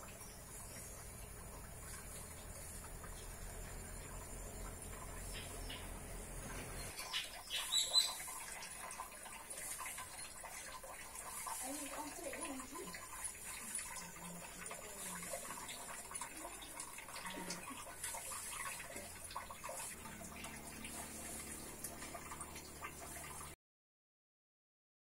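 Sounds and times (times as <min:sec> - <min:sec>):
low steady hum: 0:00.0 - 0:07.4, 0:08.1 - 0:23.6.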